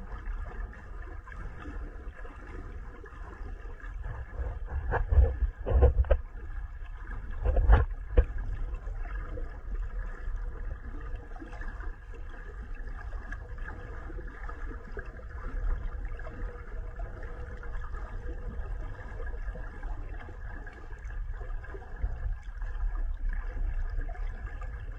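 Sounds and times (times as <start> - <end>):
underwater rumble and hiss: 0.0 - 24.9.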